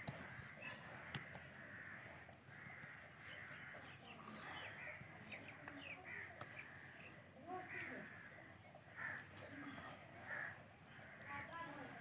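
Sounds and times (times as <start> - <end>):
faint bird calls: 0.0 - 11.9.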